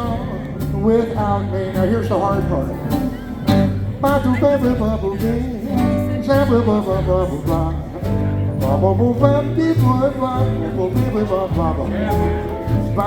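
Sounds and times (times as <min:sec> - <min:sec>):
swing jazz band playing: 0:00.0 - 0:13.0.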